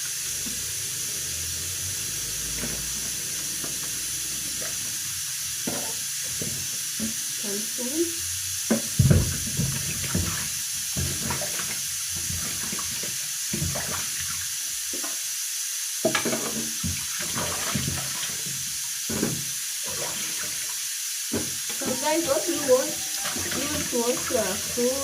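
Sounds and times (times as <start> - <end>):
water splashing in a sink: 0.0 - 15.3, 16.0 - 25.0
steady water hiss: 0.0 - 25.0.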